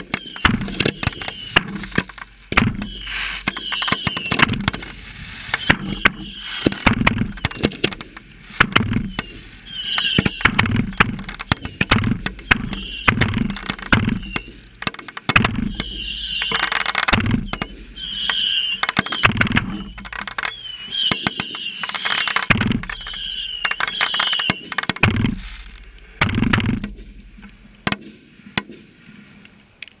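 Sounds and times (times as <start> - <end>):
firework whistles: 0.0 - 14.8, 15.4 - 26.0
firework launch thumps: 0.0 - 20.3, 22.4 - 28.9
firework cracking bursts: 0.0 - 29.4.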